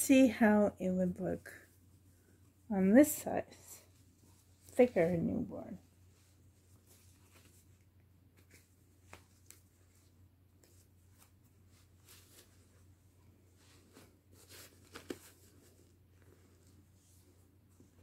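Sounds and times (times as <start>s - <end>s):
cloth rustling: 3.6s - 18.0s.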